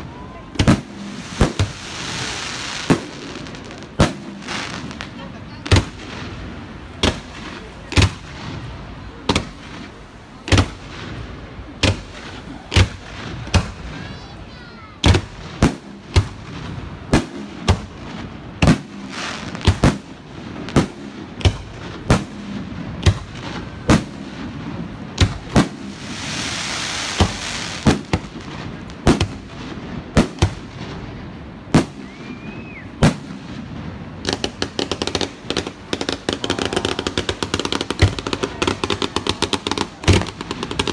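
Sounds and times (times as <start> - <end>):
fireworks hiss: 0.0 - 40.9.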